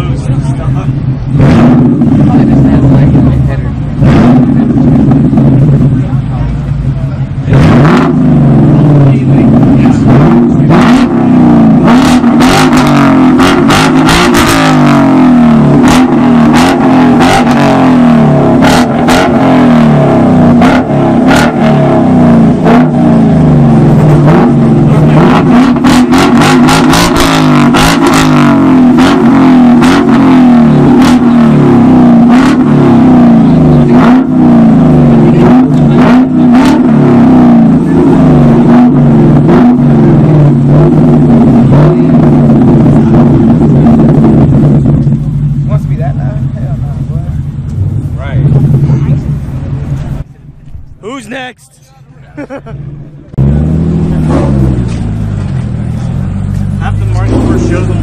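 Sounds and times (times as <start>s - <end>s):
car engine revving hard: 0.0s - 50.3s, 52.4s - 58.0s
sharp exhaust cracks: 0.0s - 51.6s.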